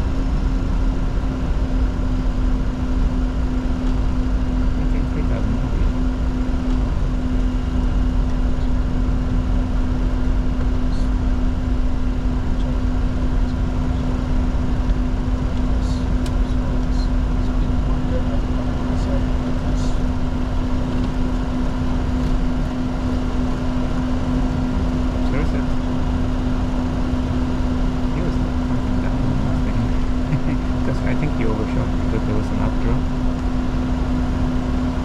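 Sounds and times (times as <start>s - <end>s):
jet flight deck rumble: 0.0s - 35.0s
steady low hum: 0.0s - 35.0s.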